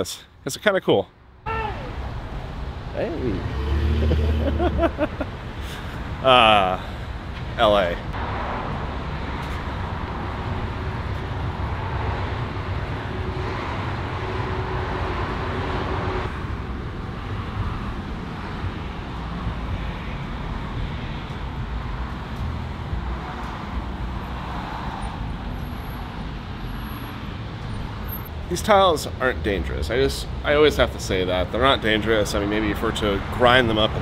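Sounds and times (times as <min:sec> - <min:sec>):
cars passing on a street: 0:01.1 - 0:34.0.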